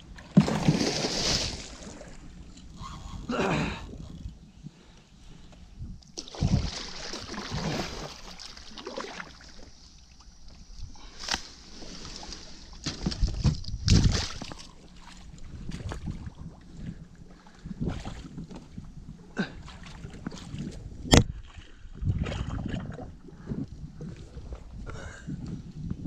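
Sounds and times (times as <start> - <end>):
water splashing and sloshing: 0.0 - 3.1, 6.0 - 24.9.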